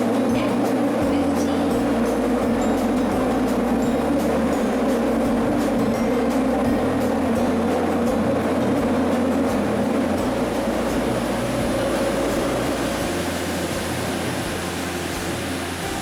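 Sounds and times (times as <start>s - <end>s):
faint high whine: 0.0s - 16.0s
subway car running rumble: 0.0s - 16.0s.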